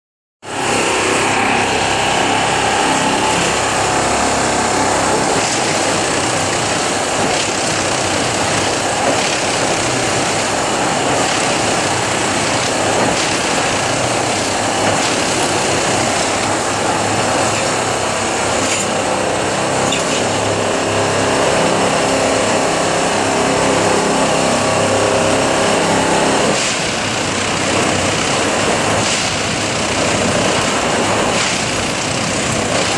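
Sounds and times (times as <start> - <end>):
track tamping machine din: 0.5 - 32.9.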